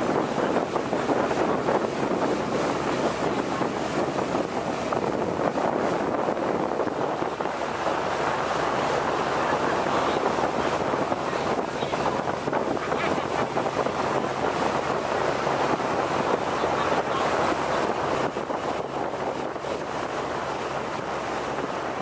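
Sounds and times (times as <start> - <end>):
boat engine running: 0.0 - 22.0
water rushing along hull: 0.0 - 22.0
wind buffeting microphone: 0.0 - 22.0.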